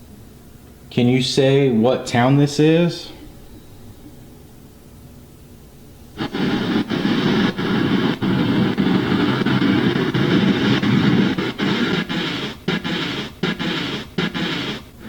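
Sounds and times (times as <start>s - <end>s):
white noise from speaker: 0.0s - 15.0s.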